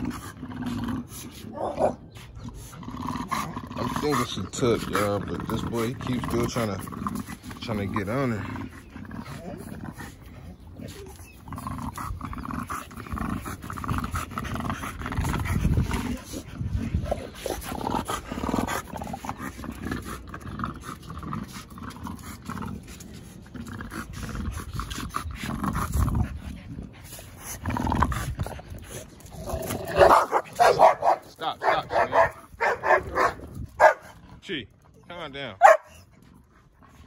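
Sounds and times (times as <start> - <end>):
dogs making play noises: 0.0 - 37.0.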